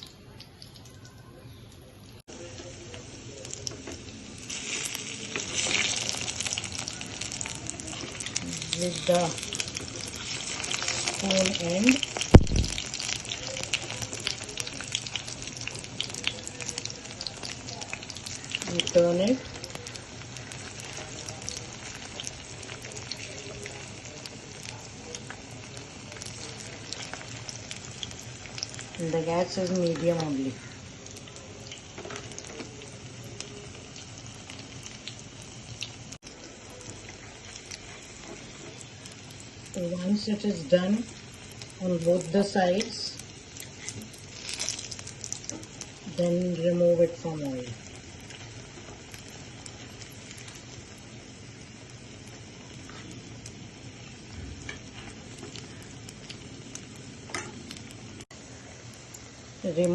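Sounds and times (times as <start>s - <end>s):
food sizzling in hot oil: 2.2s - 59.9s.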